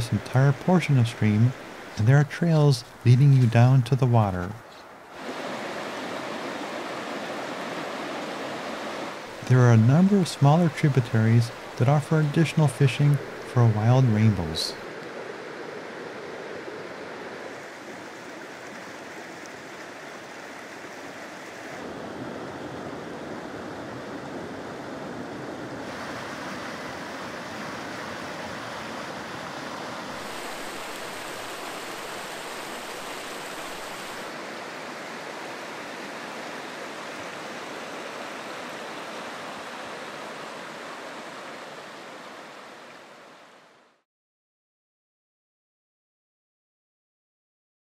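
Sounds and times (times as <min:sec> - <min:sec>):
stream rushing over rocks: 0:00.0 - 0:24.2, 0:25.8 - 0:43.9.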